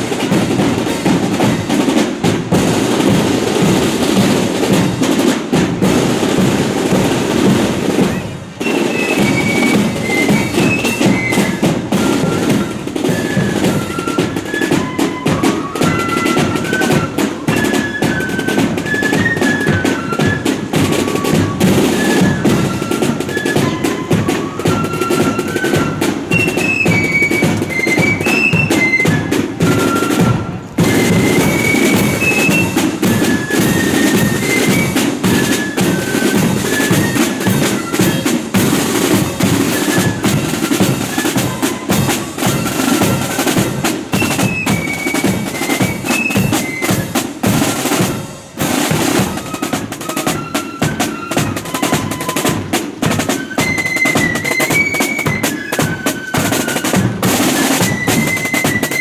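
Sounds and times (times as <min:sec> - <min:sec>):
side drums rattling: 0:00.0 - 0:59.0
flutes playing a melody: 0:05.7 - 0:59.0.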